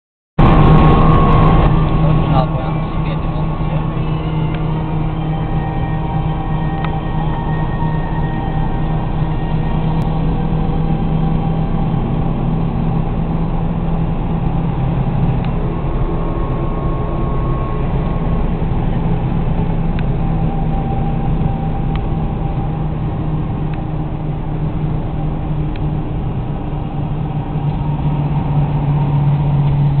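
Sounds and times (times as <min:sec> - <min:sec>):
car engine drone: 0:00.4 - 0:30.0
tyre and road noise: 0:00.4 - 0:30.0.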